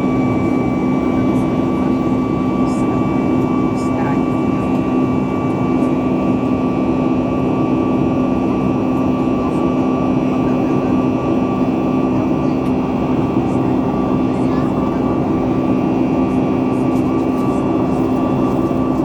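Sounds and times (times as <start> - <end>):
jet engines humming: 0.0 - 19.0.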